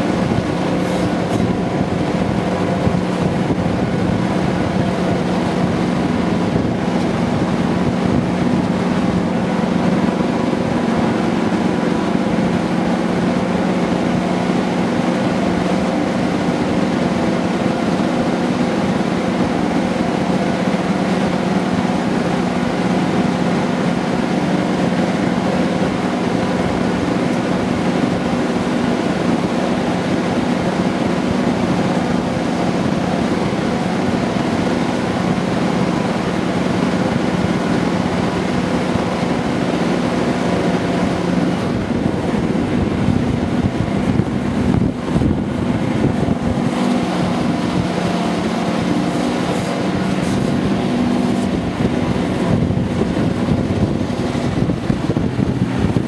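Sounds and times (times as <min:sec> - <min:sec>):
wind on microphone: 0:00.0 - 0:20.1, 0:25.0 - 0:56.0
diesel locomotive engines running hard: 0:00.0 - 0:56.0.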